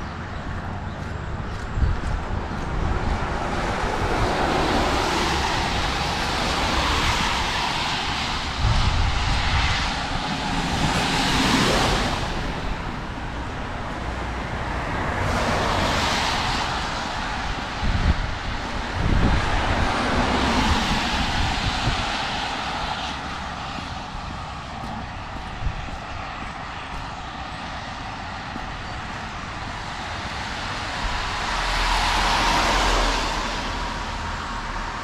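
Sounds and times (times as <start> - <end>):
traffic passing on a wet road: 0.0 - 35.0
wind rumbling on microphone: 0.0 - 35.0.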